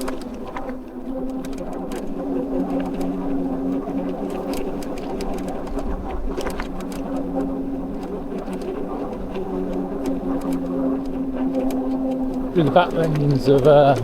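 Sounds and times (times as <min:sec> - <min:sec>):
bike clicks and rattles: 0:00.0 - 0:14.0
electric bike motor whining: 0:00.0 - 0:14.0
wind rumble on microphone: 0:00.0 - 0:14.0.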